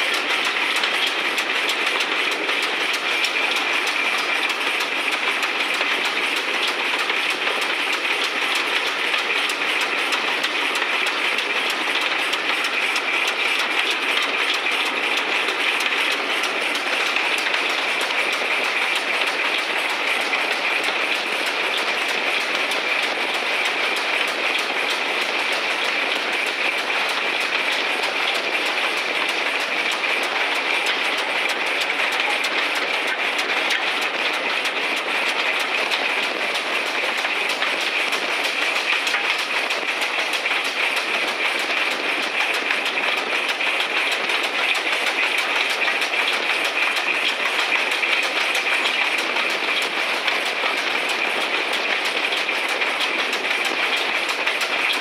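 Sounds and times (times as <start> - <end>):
steam train running: 0.0 - 55.0
wheels clattering over rail joints: 0.0 - 55.0.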